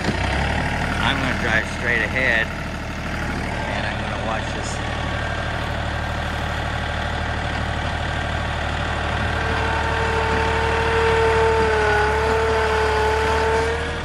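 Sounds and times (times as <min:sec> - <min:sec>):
tractor diesel engine running: 0:00.0 - 0:14.0
steady whine: 0:01.0 - 0:14.0.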